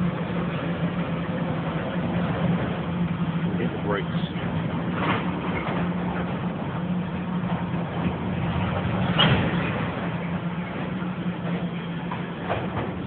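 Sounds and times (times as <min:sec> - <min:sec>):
freight train rumbling by: 0:00.0 - 0:13.0.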